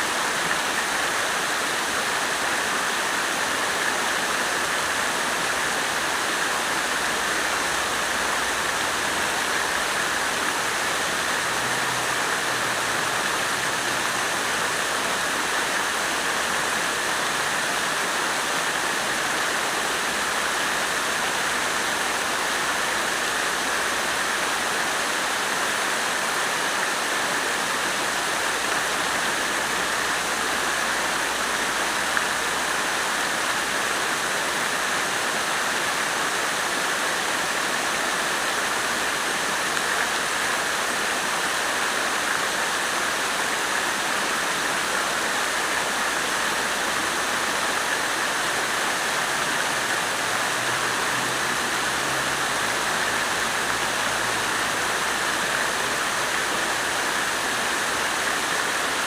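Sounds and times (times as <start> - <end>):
water fountain splashing: 0.0 - 59.0.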